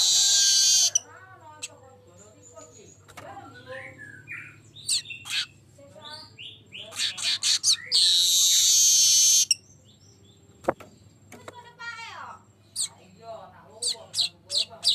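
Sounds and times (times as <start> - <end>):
weaver bird singing: 0.0 - 11.3, 12.5 - 14.9.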